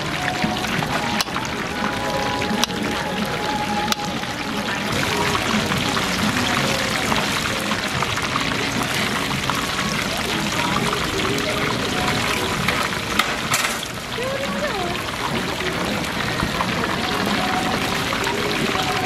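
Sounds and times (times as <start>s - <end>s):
oil sizzling and crackling: 0.0s - 19.0s.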